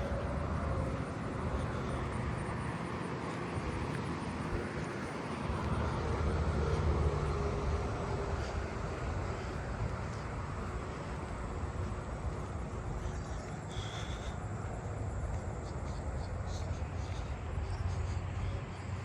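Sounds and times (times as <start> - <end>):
distant vehicle engine rumble: 0.0 - 19.0.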